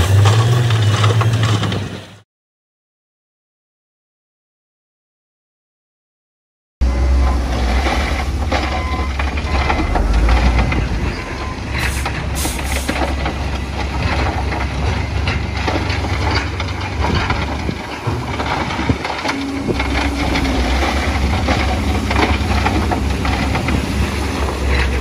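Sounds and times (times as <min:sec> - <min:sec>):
diesel machinery engine drone: 0:00.0 - 0:02.2, 0:06.8 - 0:25.0
rock clanking and scraping: 0:00.0 - 0:02.2, 0:07.1 - 0:25.0.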